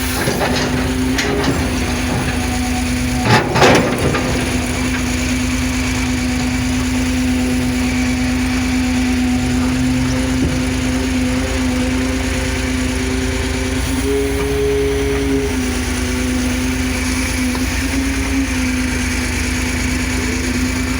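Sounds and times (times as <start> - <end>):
diesel engine humming: 0.0 - 20.9.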